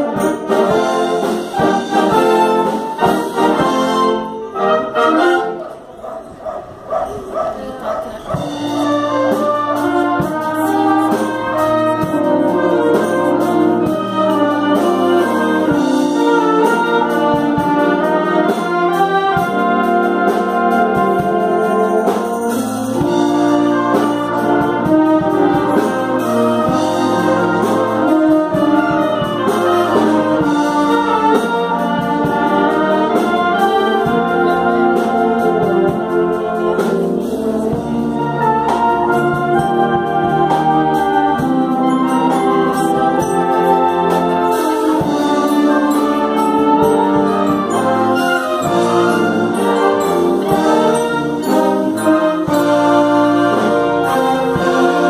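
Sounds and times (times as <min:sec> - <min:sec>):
concert band playing: 0:00.0 - 0:55.0.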